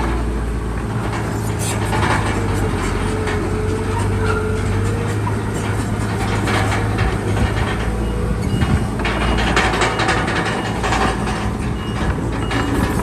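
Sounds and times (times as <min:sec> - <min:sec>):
bulldozer diesel engine running: 0:00.0 - 0:13.0
steel tracks clanking: 0:00.0 - 0:13.0.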